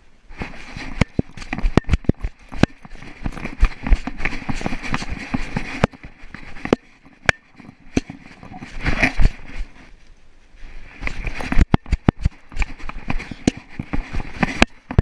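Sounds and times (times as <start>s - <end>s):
scratchy rustling: 0.3s - 15.0s
camera knocking and rubbing: 0.4s - 9.9s, 10.9s - 15.0s
dog paws on gravel: 0.4s - 15.0s.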